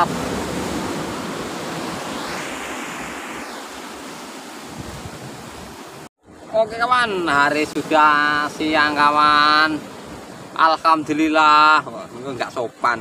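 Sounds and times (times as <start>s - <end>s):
sea surf breaking on rocks: 0.0s - 11.8s.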